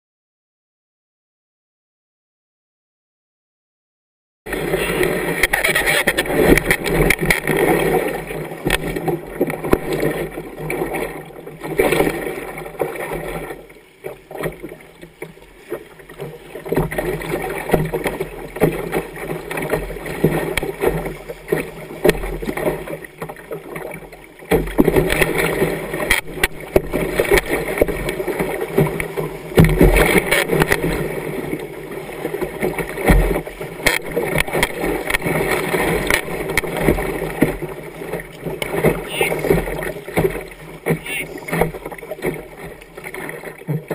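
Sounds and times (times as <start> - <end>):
river water rushing against kayak: 4.5 - 43.9.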